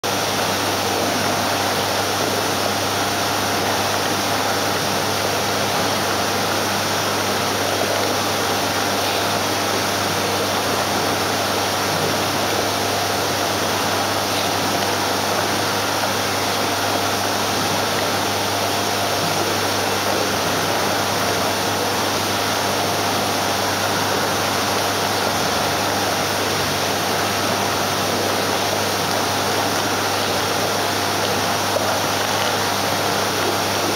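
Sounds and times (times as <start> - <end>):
aquarium pump hum: 0.0 - 33.9.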